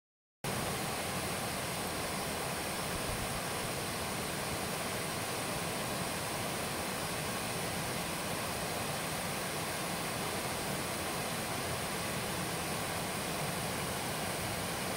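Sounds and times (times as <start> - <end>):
waterfall rushing into pool: 0.5 - 14.9.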